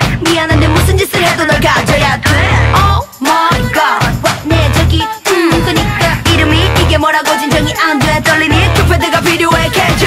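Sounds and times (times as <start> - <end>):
dance-pop song with women singing: 0.0 - 10.0.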